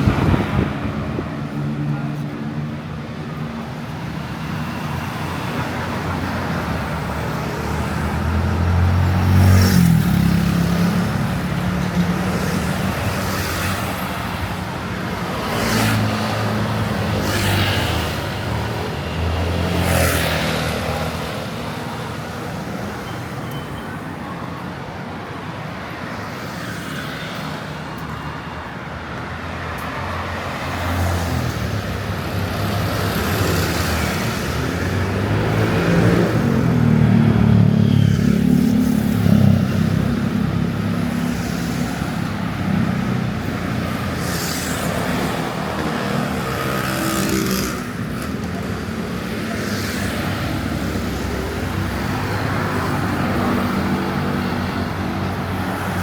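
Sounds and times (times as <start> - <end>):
vehicles passing on road: 0.0 - 56.0.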